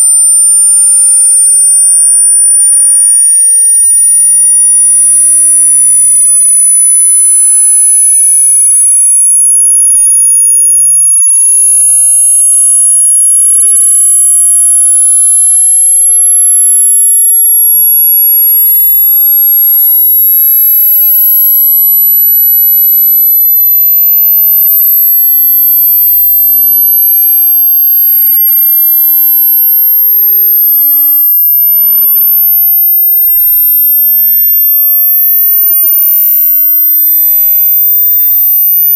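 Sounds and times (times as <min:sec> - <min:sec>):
rising sine test tone: 0:00.0 - 0:38.9.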